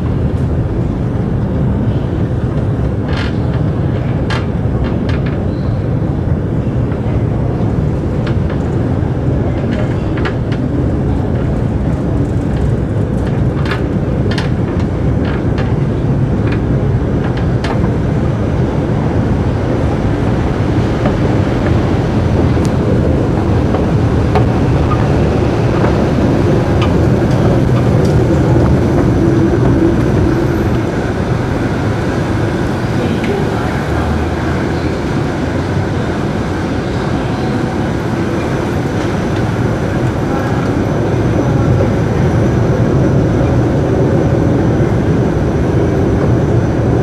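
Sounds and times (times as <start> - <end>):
escalator rumbling: 0.0 - 47.0.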